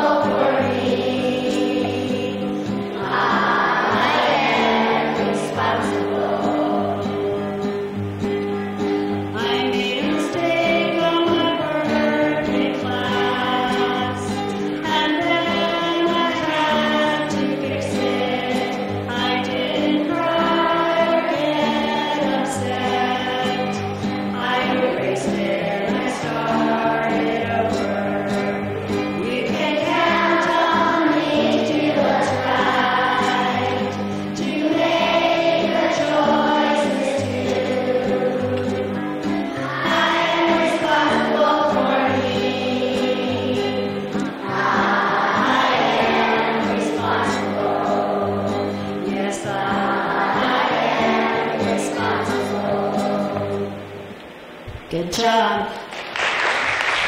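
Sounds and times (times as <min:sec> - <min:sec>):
children singing in unison: 0:00.0 - 0:53.9.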